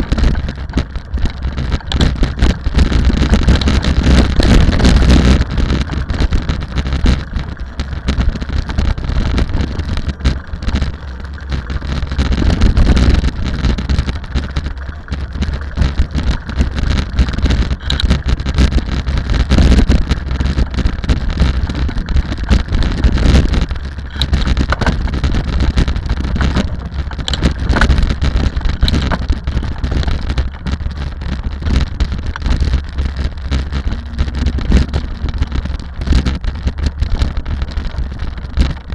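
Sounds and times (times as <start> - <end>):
rally car engine: 0.0 - 38.9
wind buffeting on microphone: 0.0 - 38.9.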